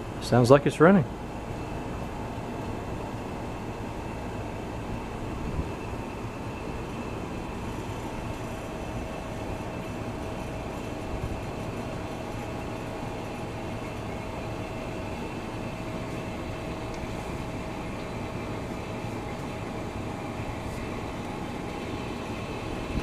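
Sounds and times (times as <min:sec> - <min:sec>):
refrigerator compressor humming: 0:00.0 - 0:23.0.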